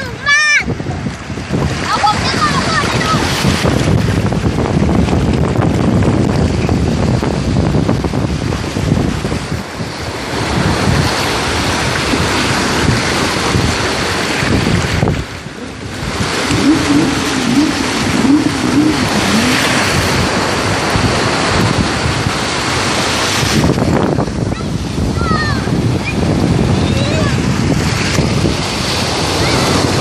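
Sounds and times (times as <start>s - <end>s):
sea waves washing in: 0.0s - 30.0s
wind noise on microphone: 0.0s - 30.0s.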